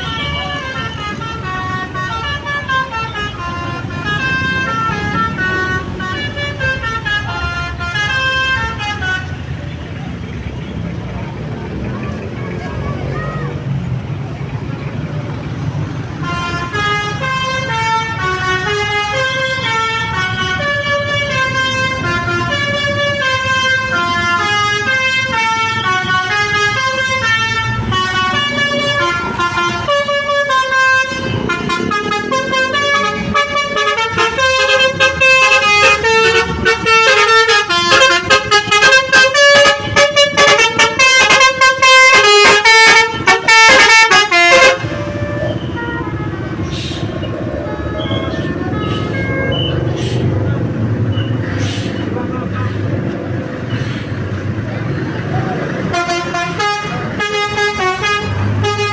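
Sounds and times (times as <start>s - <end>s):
multi-tone vehicle horn playing tune: 0.0s - 9.9s, 16.0s - 50.7s, 55.7s - 58.9s.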